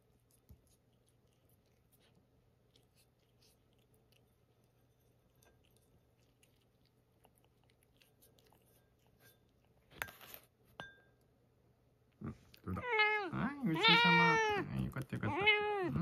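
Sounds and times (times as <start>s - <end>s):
cat chewing and licking: 0.0s - 10.7s, 12.0s - 16.0s.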